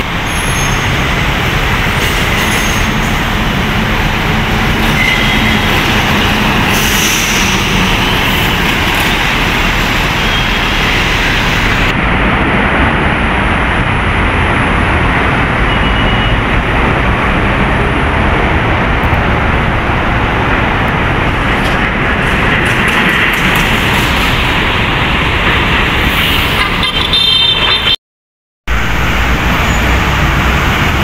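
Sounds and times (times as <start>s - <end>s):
trucks and cars passing: 0.0s - 28.0s, 28.7s - 31.0s.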